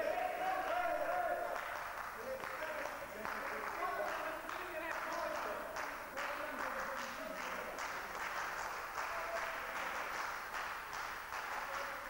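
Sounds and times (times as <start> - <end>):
scattered clapping: 0.6 - 12.0.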